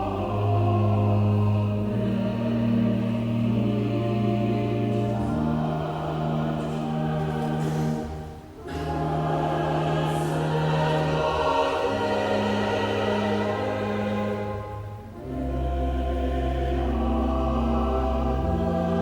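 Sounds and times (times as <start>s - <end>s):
church choir singing: 0.0s - 19.0s.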